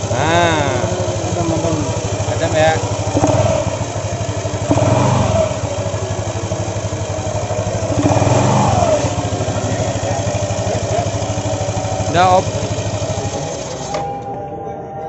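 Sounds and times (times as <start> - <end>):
scooter engine revving: 0.0 - 14.6.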